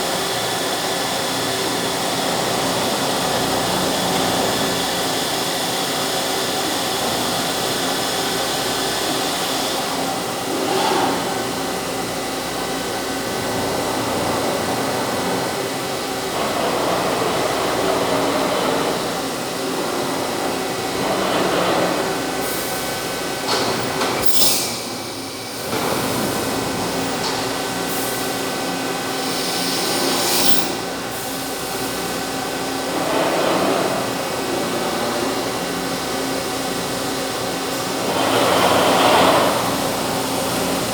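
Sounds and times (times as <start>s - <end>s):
machine mechanical drone: 0.0s - 40.9s.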